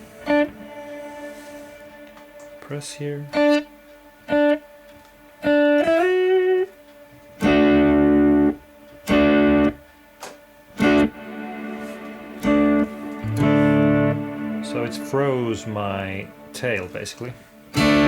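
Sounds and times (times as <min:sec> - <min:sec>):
electric guitar with reverb: 0:00.0 - 0:09.9, 0:10.8 - 0:18.0.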